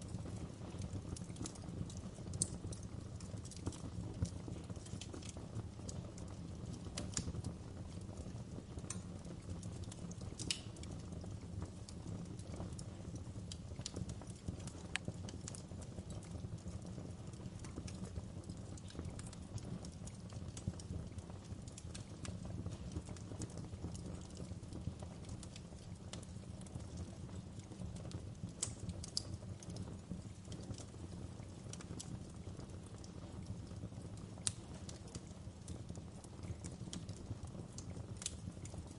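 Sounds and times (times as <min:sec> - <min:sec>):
fire popping and snapping: 0:00.0 - 0:38.9
wood fire crackling: 0:00.0 - 0:38.9.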